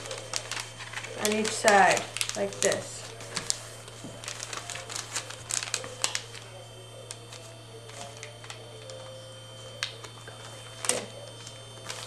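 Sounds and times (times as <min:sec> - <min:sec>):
paper folding and rustling: 0:00.0 - 0:12.0
steady low hum: 0:00.0 - 0:12.0.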